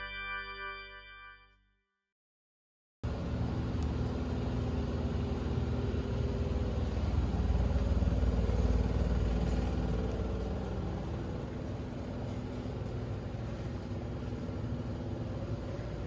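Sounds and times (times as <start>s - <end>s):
low mechanical rumble: 3.0s - 16.0s.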